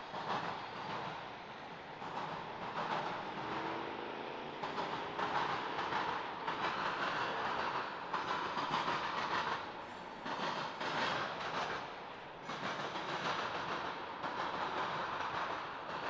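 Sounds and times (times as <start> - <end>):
train wheels clattering over crossing: 0.0 - 16.0.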